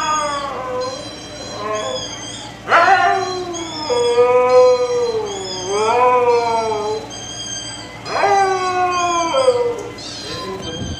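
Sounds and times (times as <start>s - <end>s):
husky howling: 0.0s - 10.9s
husky howls played from a phone: 0.0s - 10.9s.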